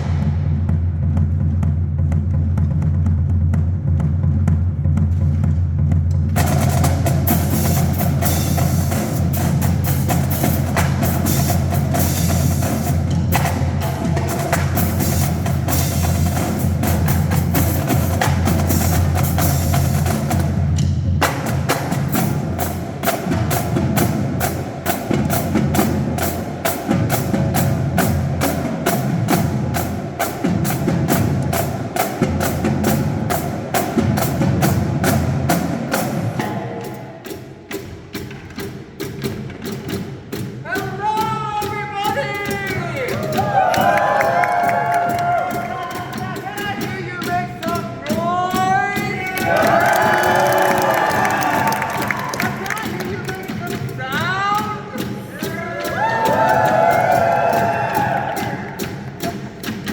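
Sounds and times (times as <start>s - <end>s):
marching drumline playing: 0.0s - 59.9s.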